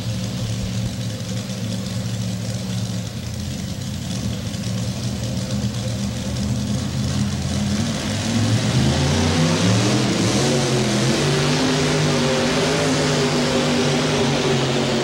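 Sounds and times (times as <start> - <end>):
pulling tractor engine revving: 0.0 - 15.0.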